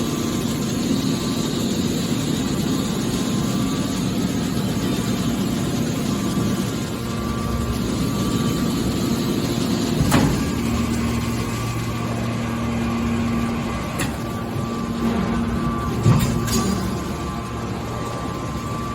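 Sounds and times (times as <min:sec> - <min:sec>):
hydraulic baler droning: 0:00.0 - 0:18.9.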